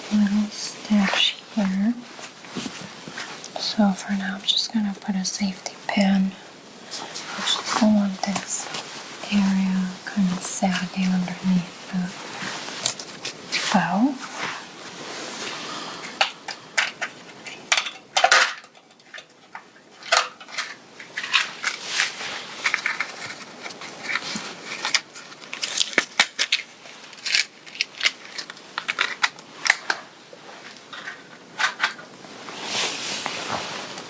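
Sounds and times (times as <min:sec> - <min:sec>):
fabric rustling and crackling: 0:00.0 - 0:18.6, 0:19.3 - 0:34.0.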